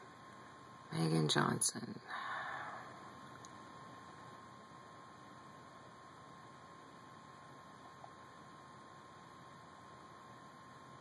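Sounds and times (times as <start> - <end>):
faint steady hiss: 0.0 - 11.0
thin steady hum: 0.0 - 11.0.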